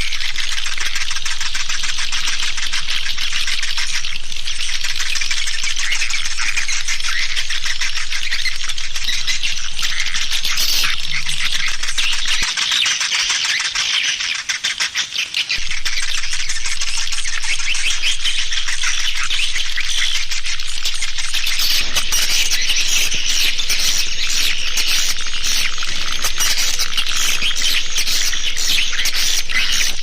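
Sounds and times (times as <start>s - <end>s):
swiftlets chattering: 0.0s - 30.0s.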